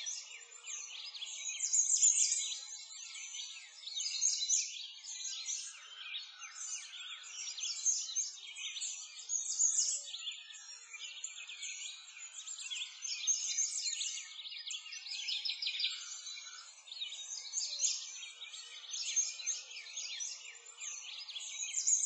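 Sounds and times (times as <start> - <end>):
small birds chirping and singing: 0.0 - 22.0.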